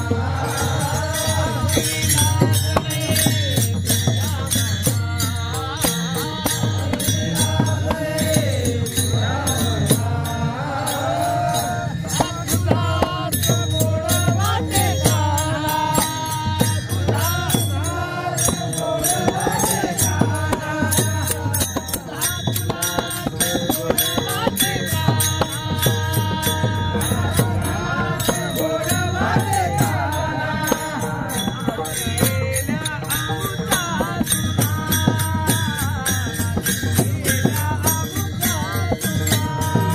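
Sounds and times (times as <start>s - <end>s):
hand cymbals clashing: 0.0s - 39.9s
men singing devotional song: 0.0s - 39.9s.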